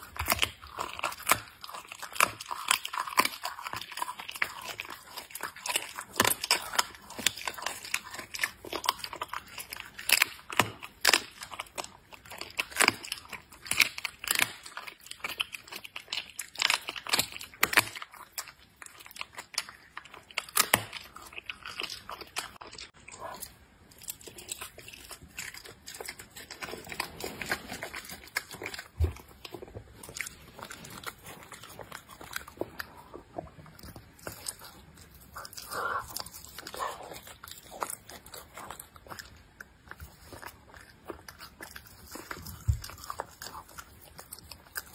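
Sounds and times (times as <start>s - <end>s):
animal chewing meat: 0.0s - 44.9s.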